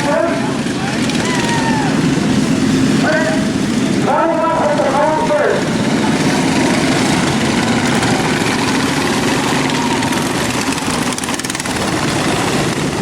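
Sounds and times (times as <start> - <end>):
racing lawn mower engines droning: 0.0 - 13.0.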